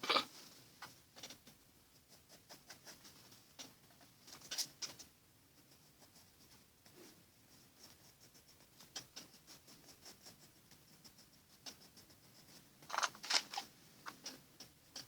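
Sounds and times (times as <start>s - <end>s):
pencil scratching on paper: 1.2s - 15.0s.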